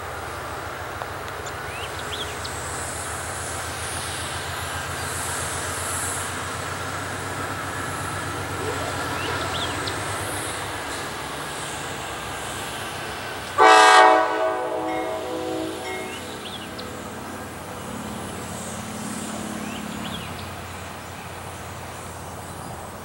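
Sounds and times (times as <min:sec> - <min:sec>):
diesel locomotive engine rumble: 0:00.0 - 0:23.0
high hiss: 0:00.0 - 0:23.0.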